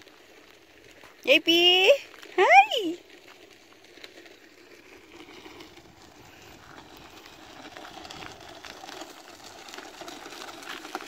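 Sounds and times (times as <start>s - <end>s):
small wheels rolling on gravel: 0.0s - 11.0s.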